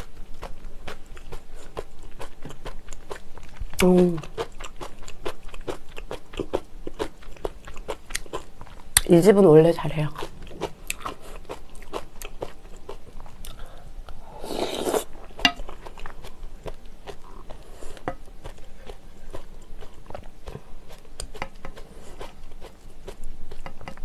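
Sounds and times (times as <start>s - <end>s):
chewing noodles: 0.0s - 9.1s, 10.1s - 13.8s, 14.4s - 23.9s.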